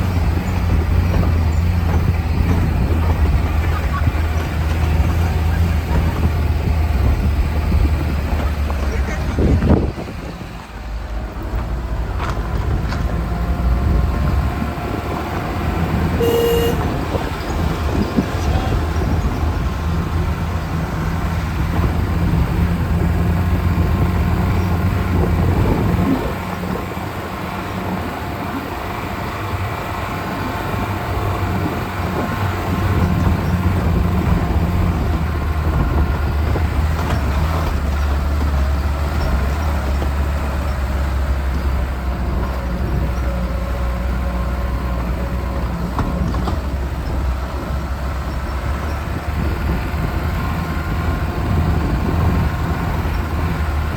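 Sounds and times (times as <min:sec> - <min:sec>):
car engine running off-road: 0:00.0 - 0:53.9.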